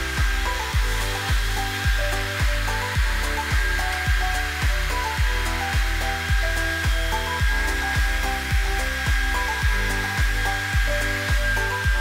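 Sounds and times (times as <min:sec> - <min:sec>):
background music with steady beat: 0:00.0 - 0:12.0
hair dryer blowing: 0:00.0 - 0:12.0.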